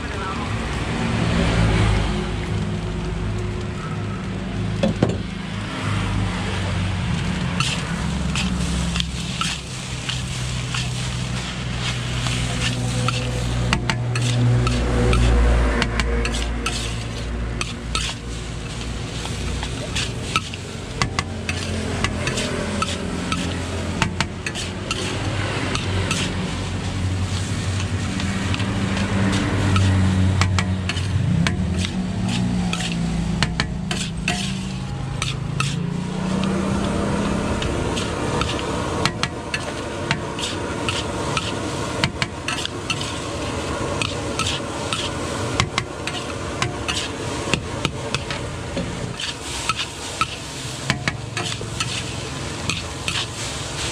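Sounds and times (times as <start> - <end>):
food sizzling: 0.1 - 53.9
metal spatula scraping a wok: 7.2 - 53.9.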